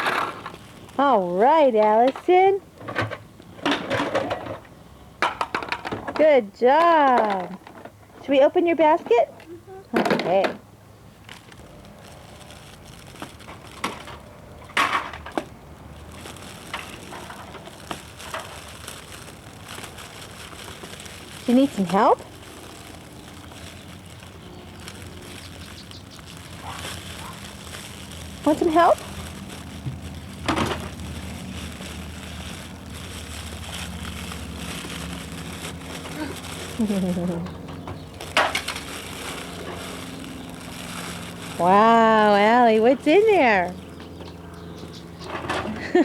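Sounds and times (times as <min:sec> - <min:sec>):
wrapping crackling and crinkling: 0:00.0 - 0:04.7, 0:05.3 - 0:10.4, 0:11.0 - 0:46.0.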